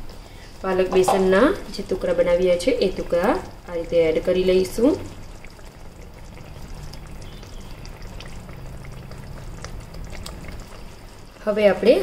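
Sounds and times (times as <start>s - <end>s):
gravy bubbling in a pan: 0.0s - 12.0s.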